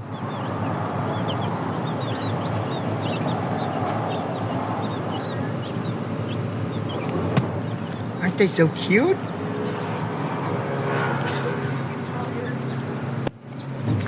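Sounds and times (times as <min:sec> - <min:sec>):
chicks peeping: 0:00.0 - 0:14.0
rushing background noise: 0:00.0 - 0:14.0.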